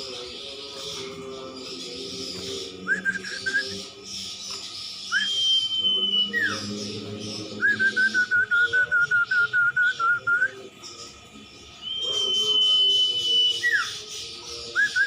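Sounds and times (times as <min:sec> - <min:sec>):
songbird singing whistled notes: 0:00.0 - 0:15.0.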